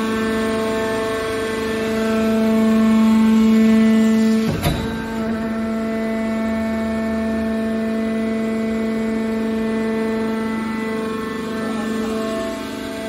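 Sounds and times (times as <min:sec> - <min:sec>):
hydraulic machine hum: 0:00.0 - 0:13.0.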